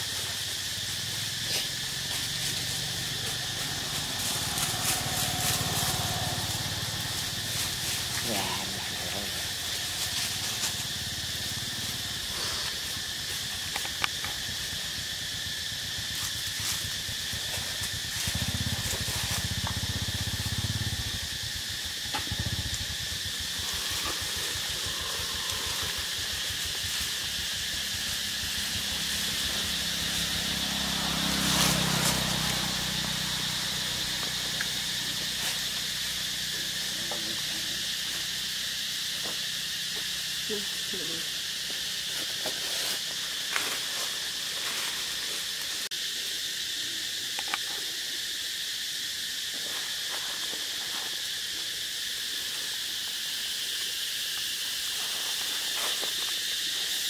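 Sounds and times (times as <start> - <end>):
insect drone: 0.0 - 57.0.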